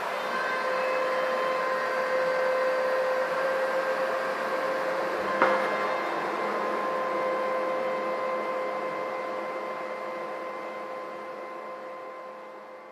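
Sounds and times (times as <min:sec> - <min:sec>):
machine hum with hiss: 0:00.0 - 0:12.9.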